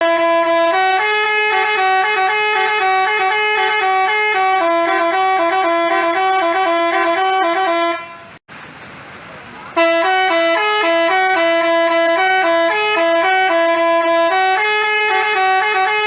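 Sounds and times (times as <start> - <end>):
horn playing quick melody: 0.0 - 8.4, 9.8 - 16.0.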